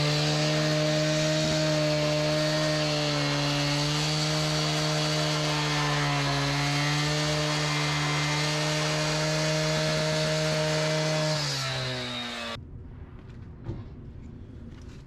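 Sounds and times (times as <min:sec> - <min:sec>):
power tool motor winding down: 0:00.0 - 0:12.6.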